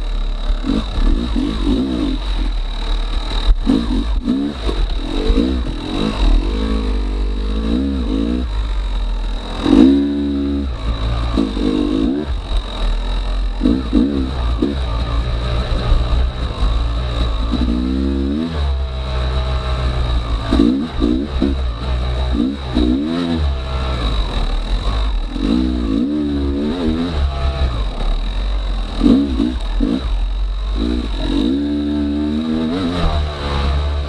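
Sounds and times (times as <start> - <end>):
two-stroke dirt bike engine revving: 0.0 - 34.0.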